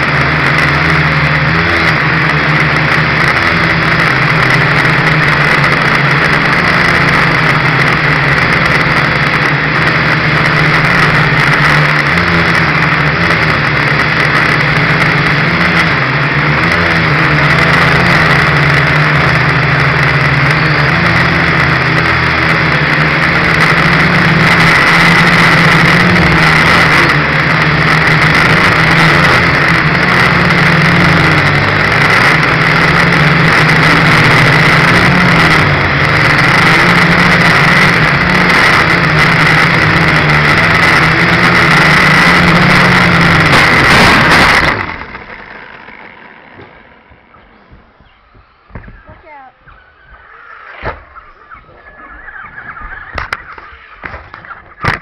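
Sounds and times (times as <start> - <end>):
quadcopter propellers buzzing: 0.0 - 55.0.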